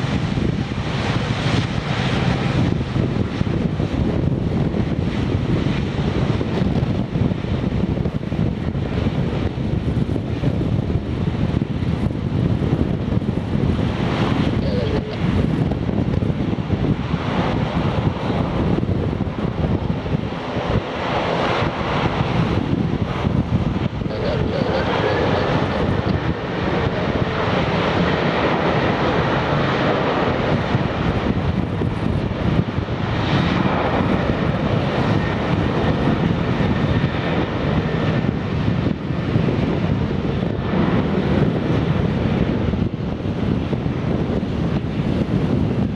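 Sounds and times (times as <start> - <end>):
jet engines at takeoff thrust: 0.0 - 45.9.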